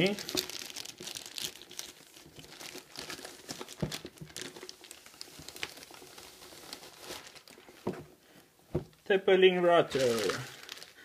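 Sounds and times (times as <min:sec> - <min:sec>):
paper packaging crinkling: 0:00.0 - 0:07.9, 0:09.8 - 0:11.0.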